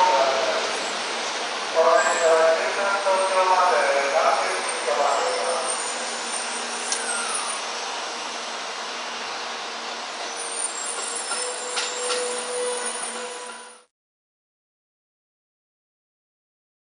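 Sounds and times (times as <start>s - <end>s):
train pulling away: 0.0s - 13.9s.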